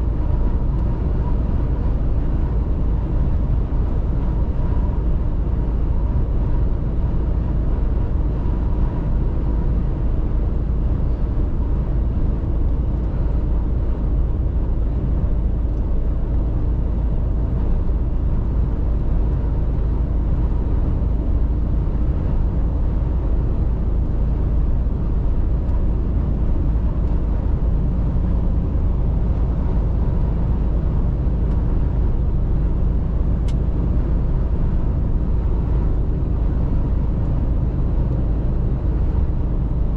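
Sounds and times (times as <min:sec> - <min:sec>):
truck engine rumble: 0:00.0 - 0:39.9.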